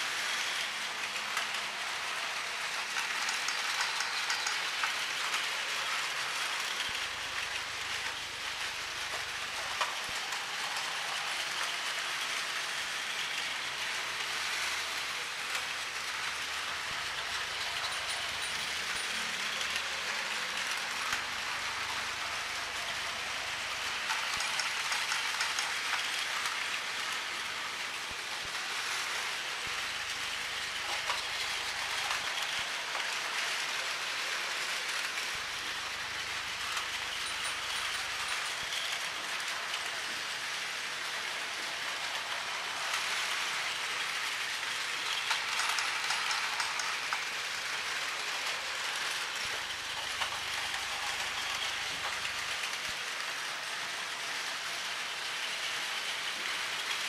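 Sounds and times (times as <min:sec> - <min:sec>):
toy trains whirring and rattling: 0:00.0 - 0:57.0.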